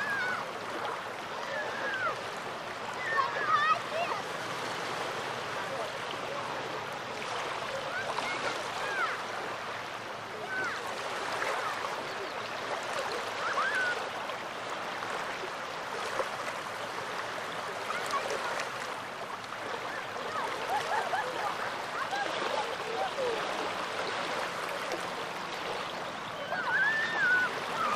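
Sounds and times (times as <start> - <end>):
small waves lapping at shore: 0.0 - 27.9.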